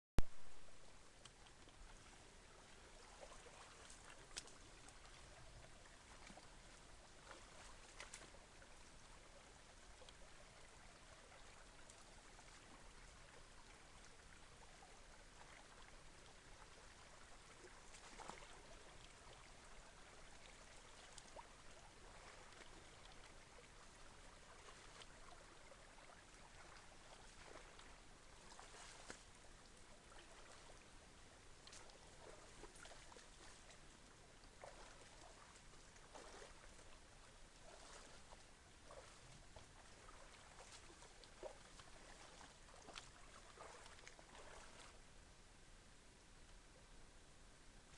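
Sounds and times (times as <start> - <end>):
faint background hiss: 0.2 - 47.9.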